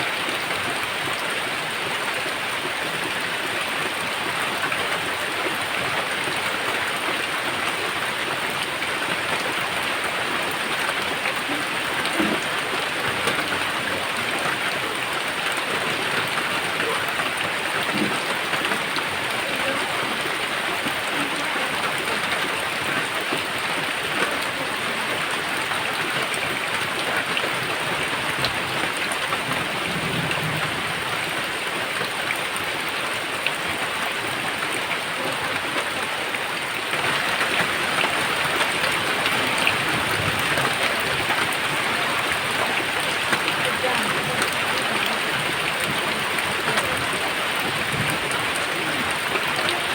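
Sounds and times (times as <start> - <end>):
raindrops ticking close by: 0.0 - 49.9
steady rain: 0.0 - 49.9.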